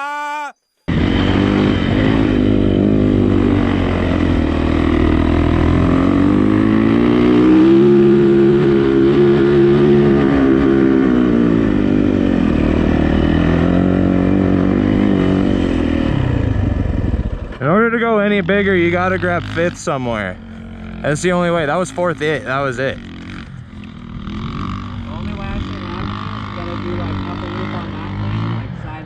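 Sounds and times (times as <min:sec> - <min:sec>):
dirt bike engine revving: 0:00.9 - 0:29.0.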